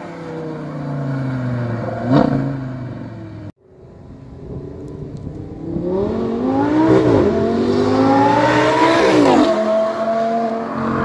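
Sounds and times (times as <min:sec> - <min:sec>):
car engine accelerating hard: 0:00.0 - 0:03.5, 0:05.0 - 0:11.0.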